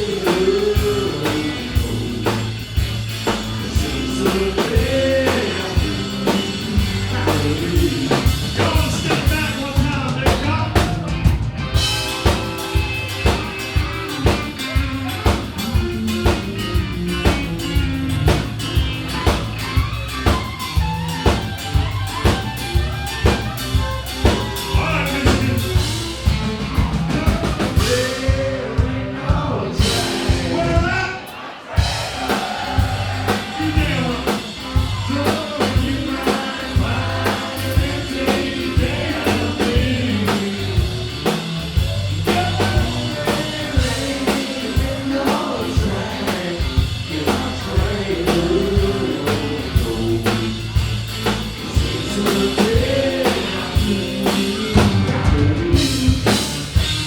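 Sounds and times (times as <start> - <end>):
drums steady beat: 0.0 - 57.0
live band playing a song: 0.0 - 57.0.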